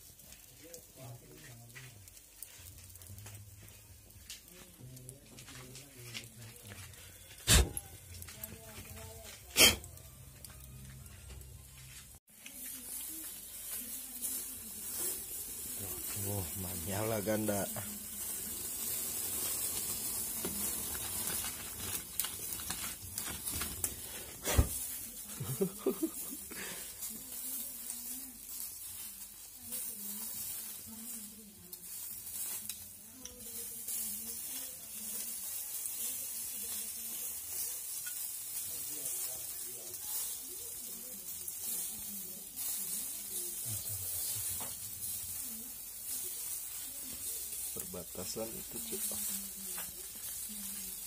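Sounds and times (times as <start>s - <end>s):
food sizzling in oil: 0.0s - 51.0s.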